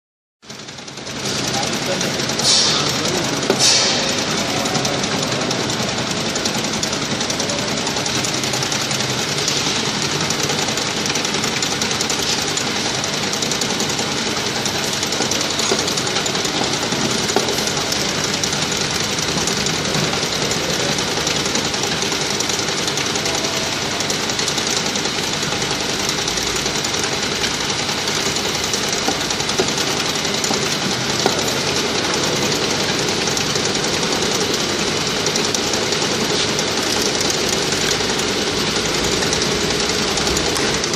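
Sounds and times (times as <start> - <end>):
filling machine clattering: 0.5 - 40.9.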